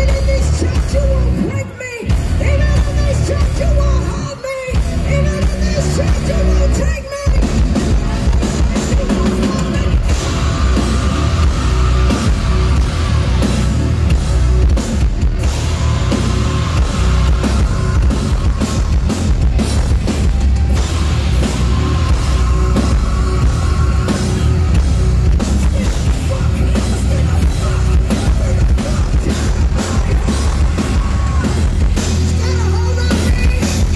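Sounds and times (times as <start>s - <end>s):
heavy metal band playing live: 0.0s - 33.9s.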